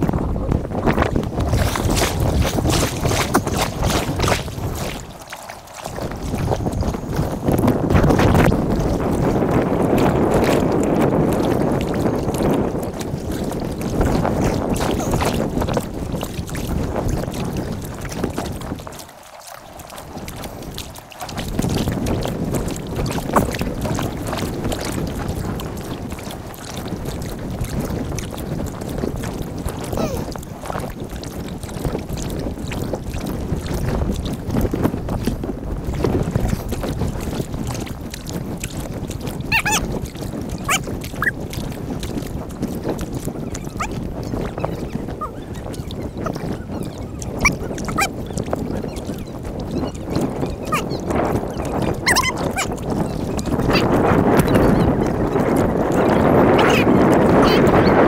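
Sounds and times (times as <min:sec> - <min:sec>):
paddle splashing water: 0:00.0 - 0:58.0
wind on microphone: 0:00.0 - 0:58.0.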